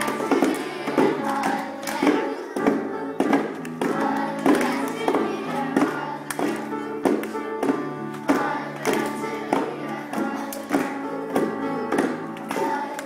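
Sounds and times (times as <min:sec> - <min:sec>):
hand drums beating: 0:00.0 - 0:12.8
instrumental accompaniment: 0:00.0 - 0:13.0
voices singing: 0:00.0 - 0:13.0.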